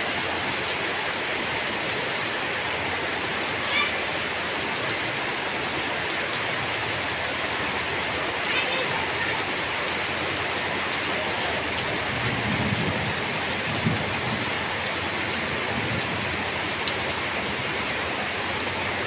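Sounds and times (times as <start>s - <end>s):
rain pattering on surfaces: 0.0s - 19.0s.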